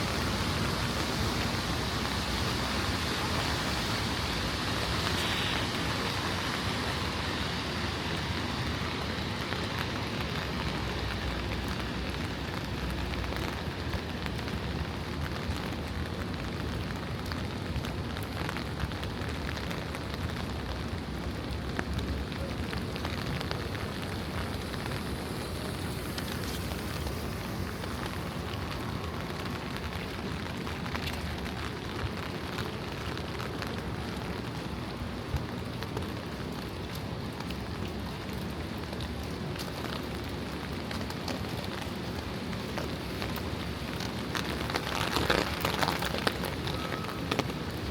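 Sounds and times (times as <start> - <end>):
distant traffic rumble: 0.0 - 47.9
rain on a wet street: 0.0 - 47.9
sharp taps of raindrops: 2.8 - 47.9.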